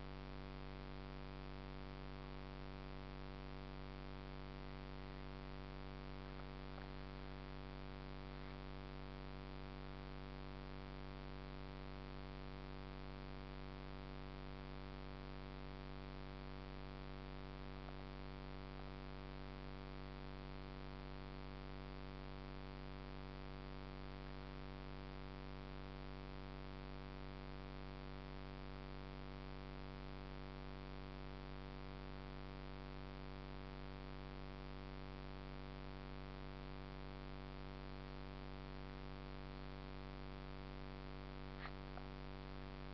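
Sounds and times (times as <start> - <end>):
steady electrical hum: 0.0 - 42.9.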